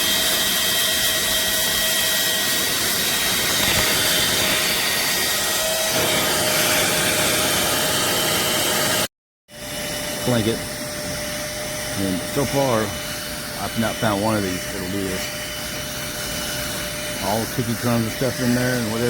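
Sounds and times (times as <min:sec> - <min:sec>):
handheld vacuum running: 0:00.0 - 0:19.0.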